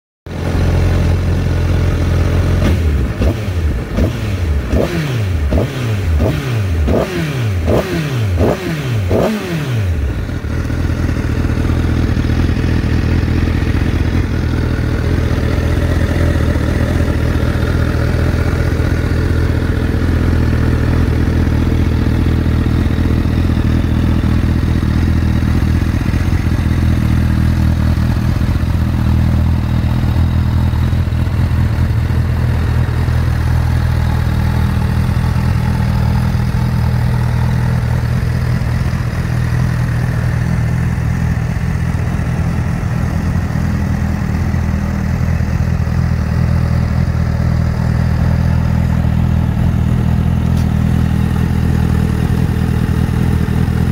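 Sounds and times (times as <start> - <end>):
motorcycle engine revving and idling: 0.3 - 53.9.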